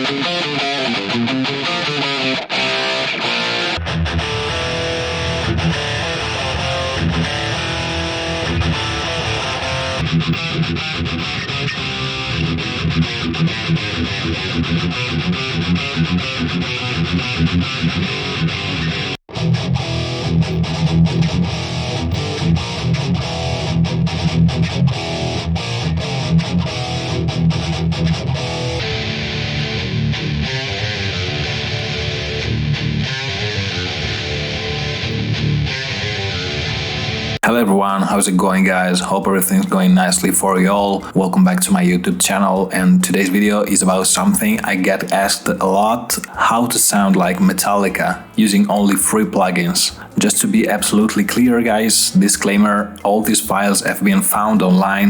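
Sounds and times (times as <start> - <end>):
distorted electric guitar riff: 0.0 - 41.3, 41.9 - 55.0.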